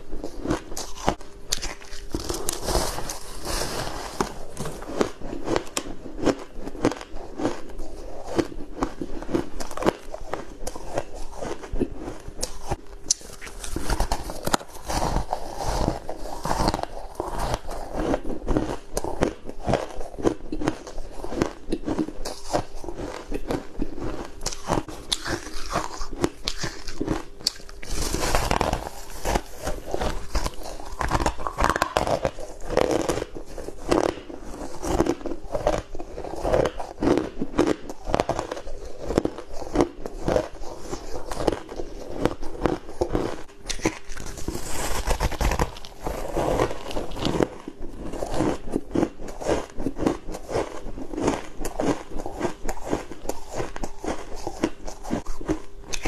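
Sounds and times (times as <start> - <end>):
ice crunching being chewed: 0.0 - 56.0.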